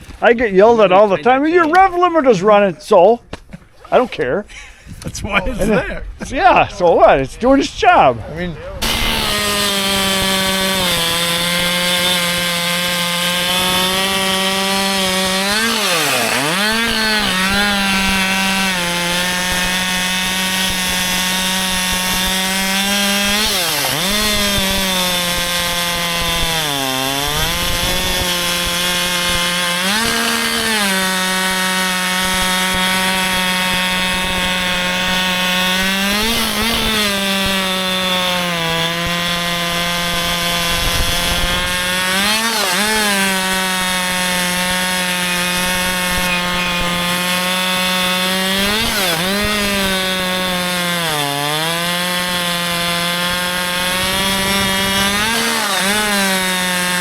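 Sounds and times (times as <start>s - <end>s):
chainsaw cutting wood: 8.8s - 57.0s.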